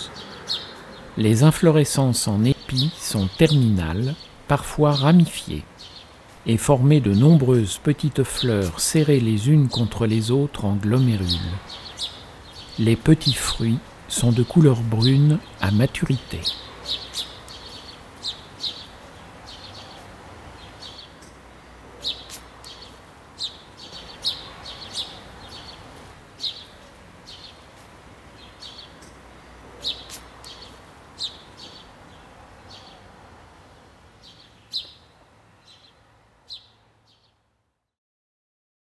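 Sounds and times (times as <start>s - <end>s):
small birds chirping: 0.0s - 37.4s
faint background noise: 0.0s - 38.0s.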